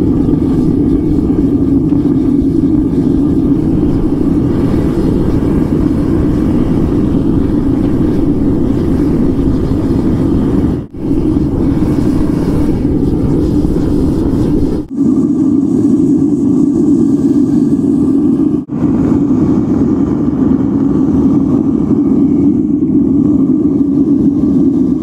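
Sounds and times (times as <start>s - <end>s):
furnace burner roaring: 0.0s - 25.0s.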